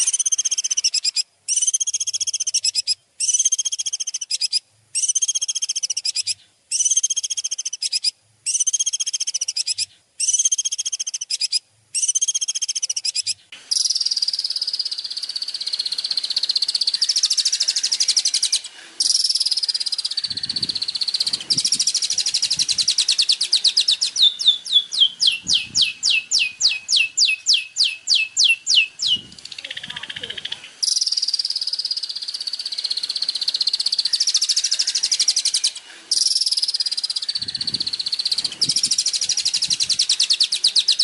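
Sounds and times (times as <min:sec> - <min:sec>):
songbird buzzy trills: 0:00.0 - 0:41.0.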